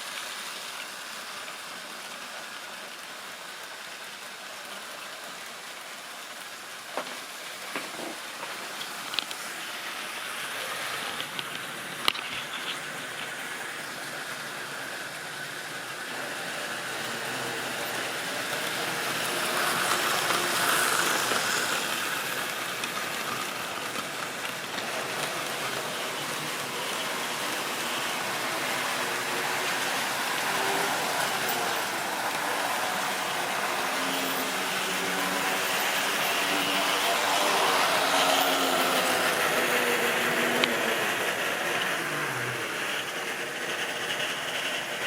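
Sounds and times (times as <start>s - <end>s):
model train wheels rattling: 7.0s - 45.0s.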